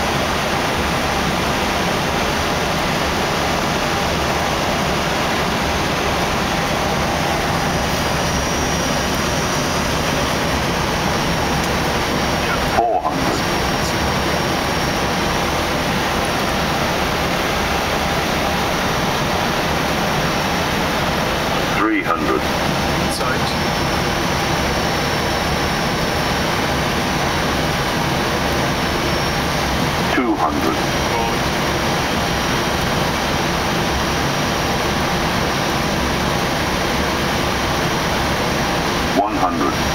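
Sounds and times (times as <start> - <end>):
aircraft engine noise: 0.0 - 39.9
airflow rushing over cockpit: 0.0 - 39.9.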